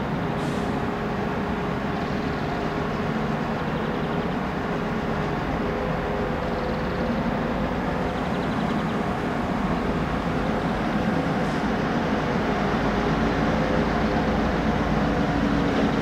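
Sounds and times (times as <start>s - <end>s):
passenger train running slowly: 0.0s - 16.0s.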